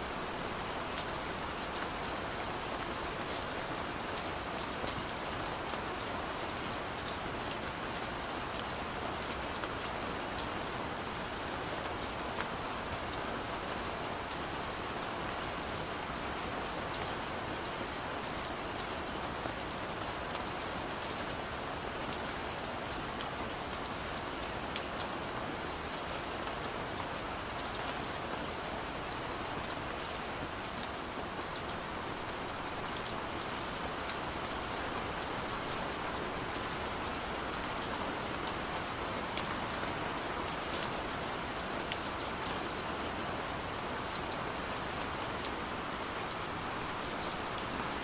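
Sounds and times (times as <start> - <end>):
gentle rain falling: 0.0 - 48.0.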